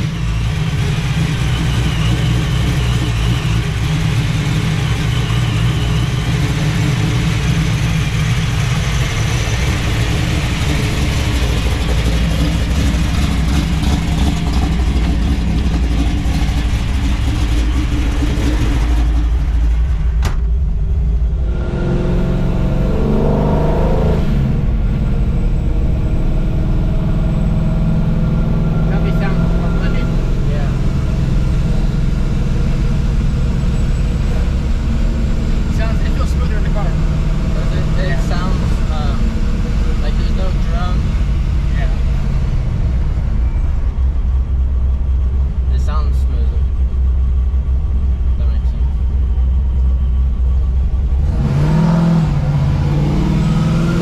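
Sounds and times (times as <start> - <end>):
car engine and exhaust: 0.0 - 54.0
road noise: 0.0 - 54.0.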